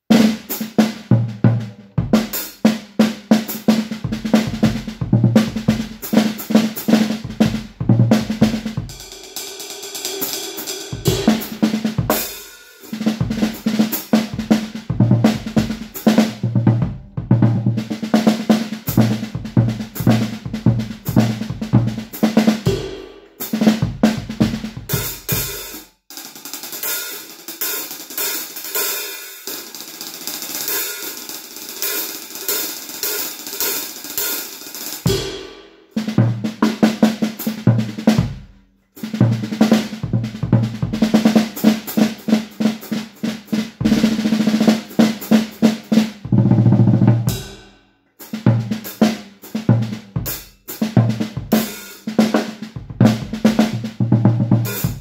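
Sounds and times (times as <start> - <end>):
cymbals and hi-hat: 0.0 - 1.2, 2.0 - 46.4, 47.2 - 55.0
drum kit solo: 0.0 - 55.0.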